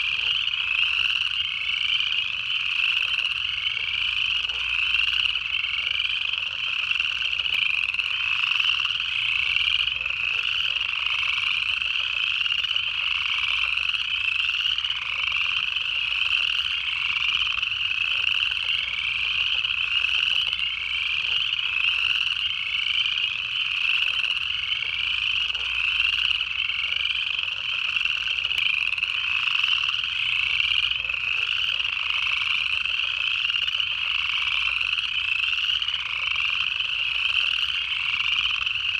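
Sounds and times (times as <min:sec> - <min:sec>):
chorus of frogs trilling: 0:00.0 - 0:38.9.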